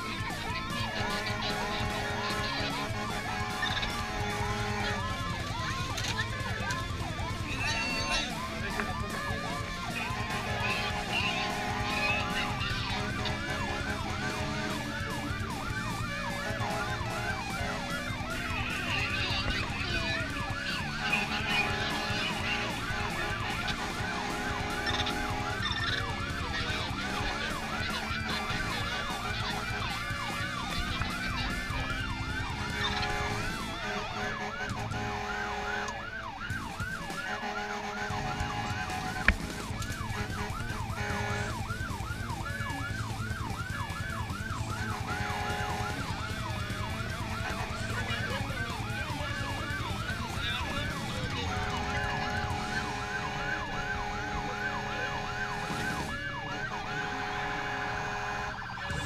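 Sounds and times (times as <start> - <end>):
electronic siren yelping: 0.0 - 59.0
truck engine rumble: 0.0 - 59.0.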